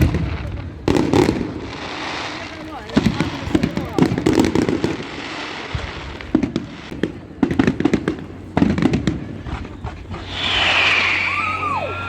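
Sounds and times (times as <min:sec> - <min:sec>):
fireworks crackling pops: 0:00.0 - 0:11.8
fireworks hiss: 0:00.0 - 0:12.0.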